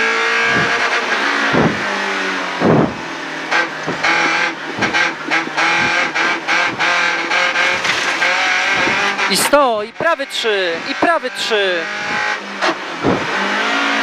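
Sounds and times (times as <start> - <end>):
rally car engine running hard: 0.0 - 14.0.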